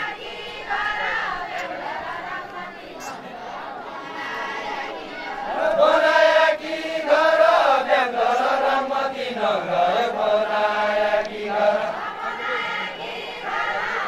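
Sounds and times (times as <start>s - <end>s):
men chanting folk song: 0.0s - 14.0s.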